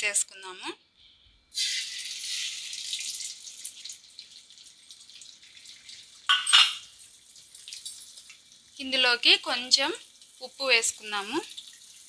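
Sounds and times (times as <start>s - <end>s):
eggs sizzling in hot oil: 1.5s - 12.0s.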